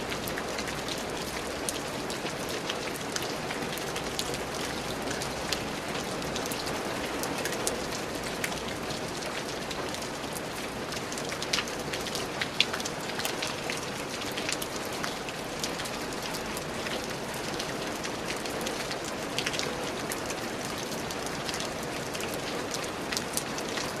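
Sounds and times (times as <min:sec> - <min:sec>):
raindrops ticking: 0:00.0 - 0:24.0.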